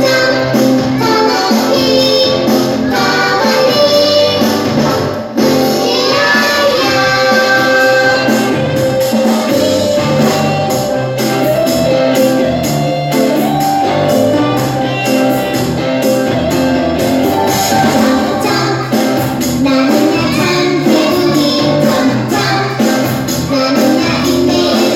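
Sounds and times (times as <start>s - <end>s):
children's song with singing: 0.0s - 24.9s.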